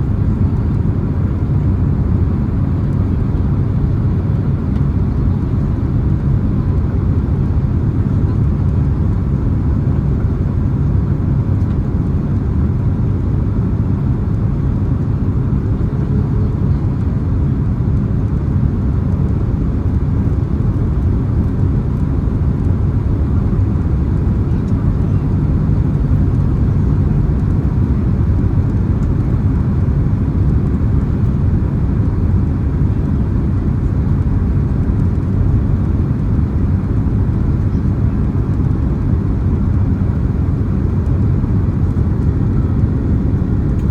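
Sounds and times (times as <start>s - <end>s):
airplane engines and airflow: 0.0s - 43.9s.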